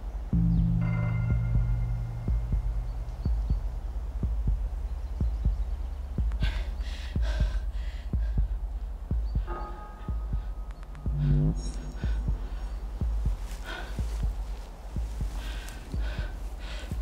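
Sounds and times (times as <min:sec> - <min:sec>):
heartbeat-like thuds: 0:00.0 - 0:17.0
low rumbling drone: 0:00.0 - 0:17.0.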